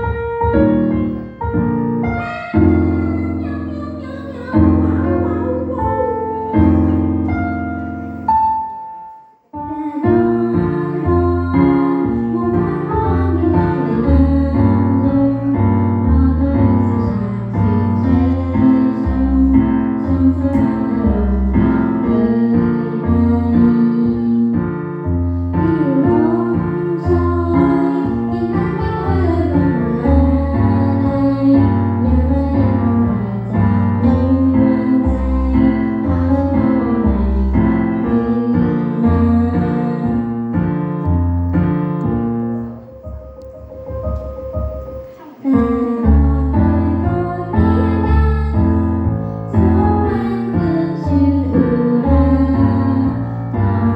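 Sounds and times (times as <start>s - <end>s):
piano chords: 0.0s - 53.9s
woman singing: 2.0s - 8.3s, 9.5s - 24.8s, 25.4s - 40.7s, 45.1s - 53.9s.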